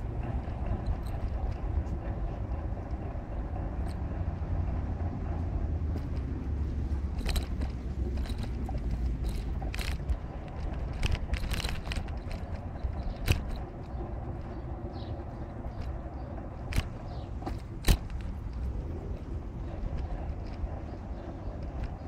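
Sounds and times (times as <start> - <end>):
low outdoor rumble: 0.0 - 22.0
sharp clicks and knocks: 0.0 - 22.0.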